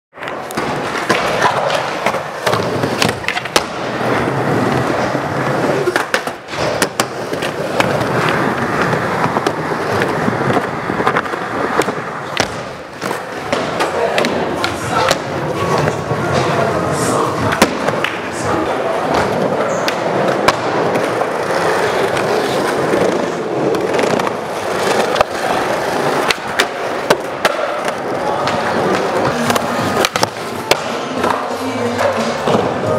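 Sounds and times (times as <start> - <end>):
skateboard clacks: 0.2 - 32.9
skateboard wheels rolling: 0.2 - 32.9.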